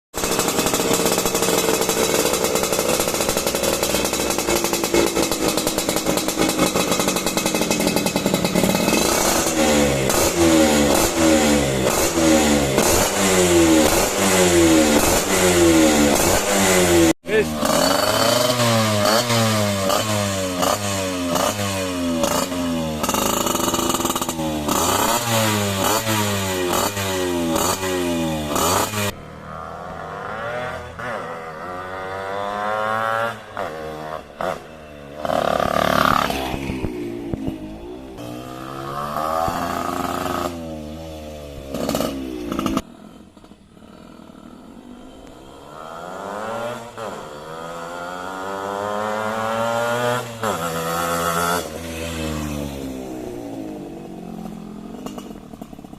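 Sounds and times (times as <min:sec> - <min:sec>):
motorcycle engine revving: 0:00.1 - 0:55.9.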